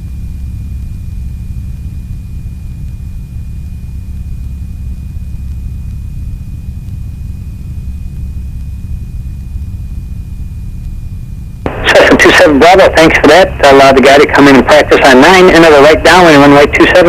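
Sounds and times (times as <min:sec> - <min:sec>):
radial aircraft engine rumbling: 0:00.0 - 0:17.0.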